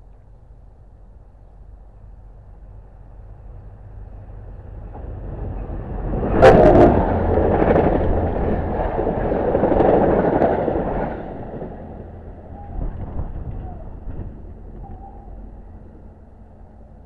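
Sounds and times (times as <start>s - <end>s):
train passing rumble and clatter: 0.0s - 17.0s.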